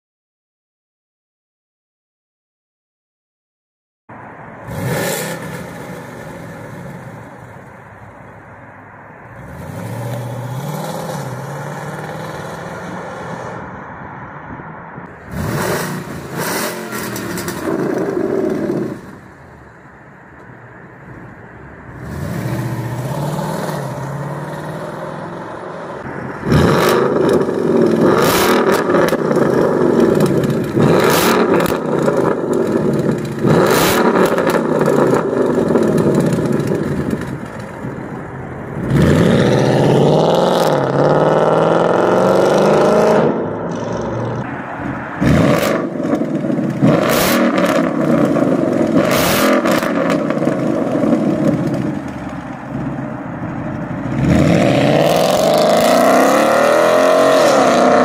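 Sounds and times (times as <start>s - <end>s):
car engine idling and revving: 4.1s - 58.0s.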